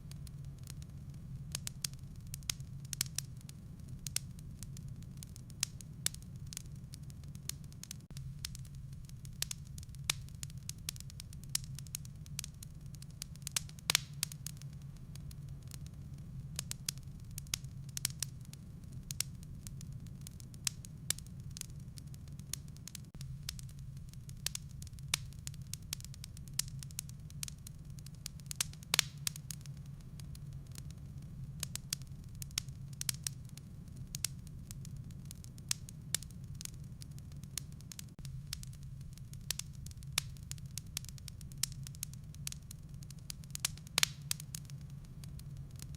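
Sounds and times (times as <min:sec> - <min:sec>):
low fire rumble: 0:00.0 - 0:45.9
wood fire crackling and popping: 0:00.0 - 0:45.9.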